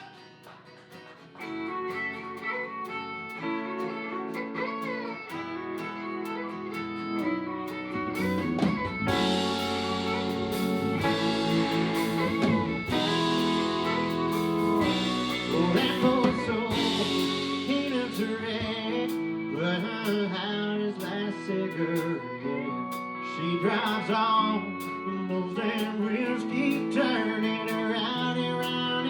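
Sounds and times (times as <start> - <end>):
country band playing: 0.0 - 29.0
guitar: 0.0 - 29.0.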